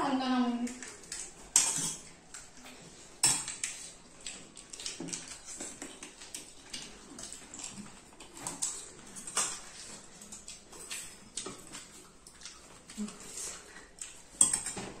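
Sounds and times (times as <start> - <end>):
people chewing: 0.6 - 15.0.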